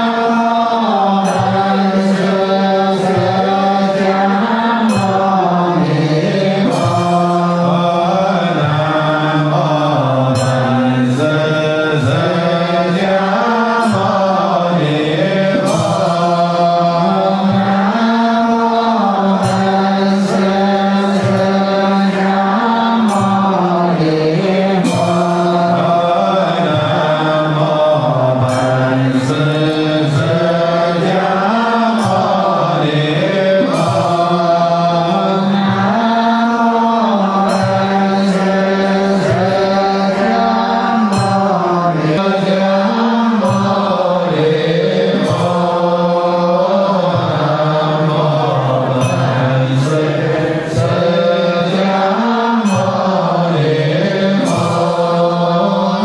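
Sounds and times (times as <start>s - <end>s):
group chanting: 0.0s - 56.0s.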